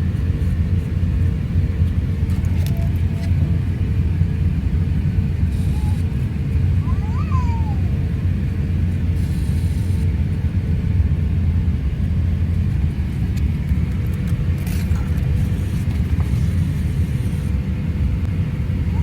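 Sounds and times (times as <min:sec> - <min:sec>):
airplane cabin rumble: 0:00.0 - 0:19.0
faint steady hum: 0:00.0 - 0:19.0.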